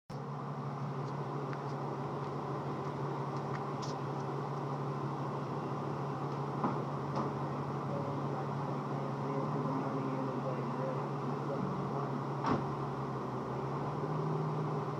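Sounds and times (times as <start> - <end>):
car engine idling: 0.1 - 14.9.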